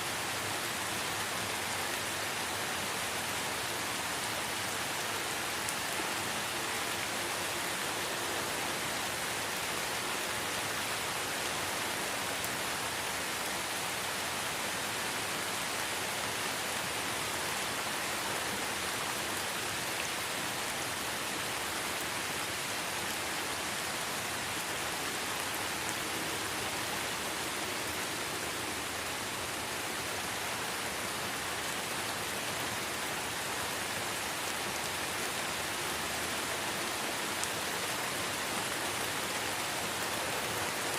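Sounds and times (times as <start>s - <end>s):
light rain on leaves: 0.0s - 40.9s.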